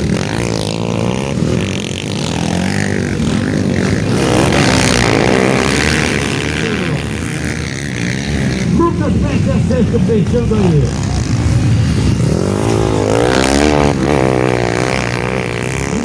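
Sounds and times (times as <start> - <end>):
motocross motorcycles racing: 0.0 - 16.0.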